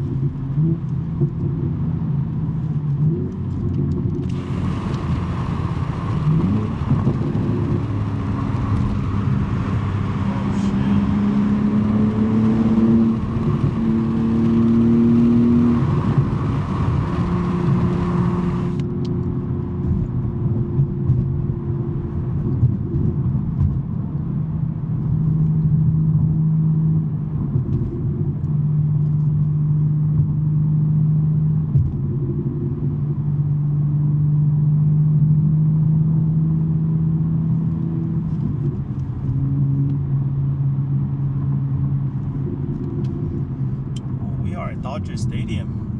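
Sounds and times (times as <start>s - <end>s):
car engine cruising drone: 0.0s - 45.9s.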